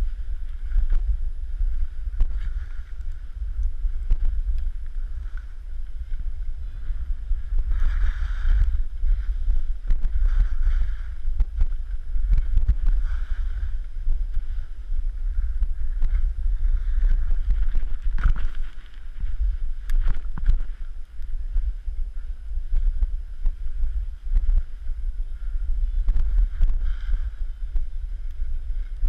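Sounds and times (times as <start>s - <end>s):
skis sliding and scraping on snow: 0.0s - 29.0s
wind rumbling on microphone: 0.0s - 29.0s.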